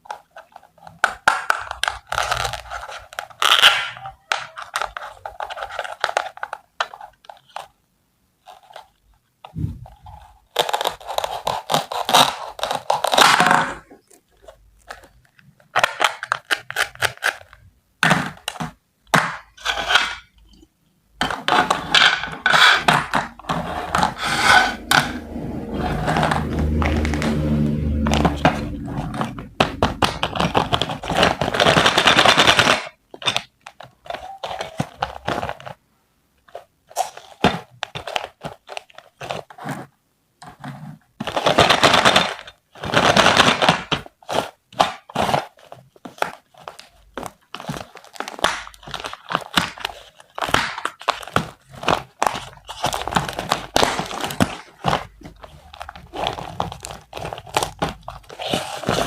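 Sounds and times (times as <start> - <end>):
toy packaging crunching and crinkling: 0.0 - 7.8, 8.4 - 20.4, 21.2 - 35.8, 36.4 - 59.0.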